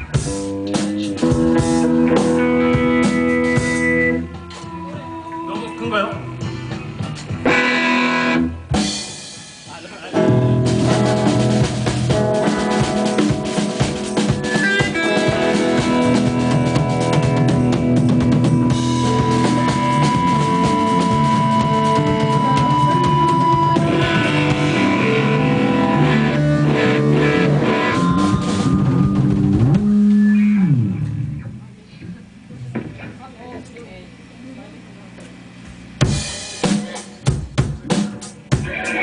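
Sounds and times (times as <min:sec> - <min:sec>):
live rock band playing: 0:00.0 - 0:31.6, 0:36.0 - 0:39.0.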